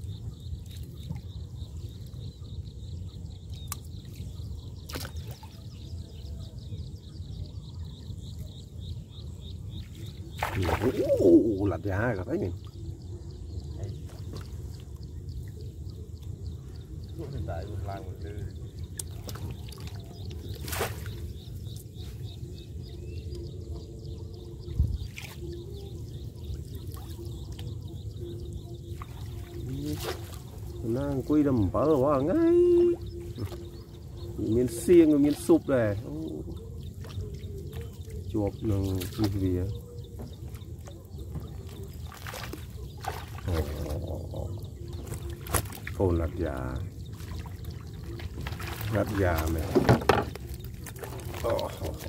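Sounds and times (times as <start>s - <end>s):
water sloshing against boat: 0.0s - 52.0s.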